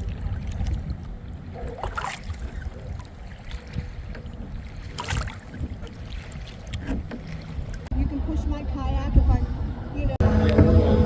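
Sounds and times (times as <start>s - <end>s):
paddle strokes in water: 0.0s - 9.6s
water splashes: 0.0s - 11.0s.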